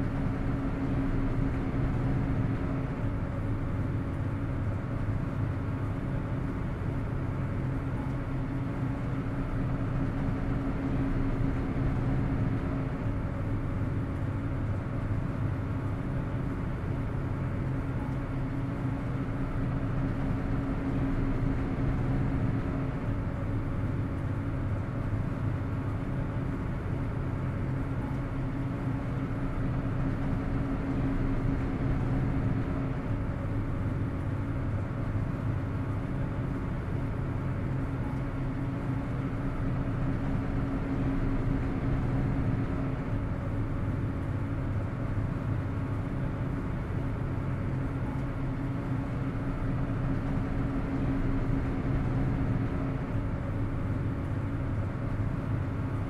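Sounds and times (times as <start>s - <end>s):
constant hum: 0.0s - 56.0s
ferry engines droning: 0.0s - 56.0s.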